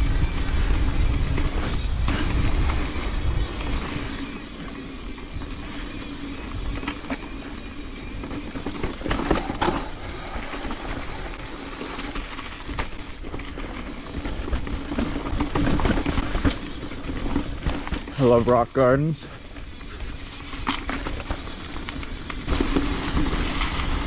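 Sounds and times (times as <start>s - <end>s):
bike tyres over rock and dirt: 0.0s - 24.0s
wind rumbling on microphone: 0.0s - 24.0s.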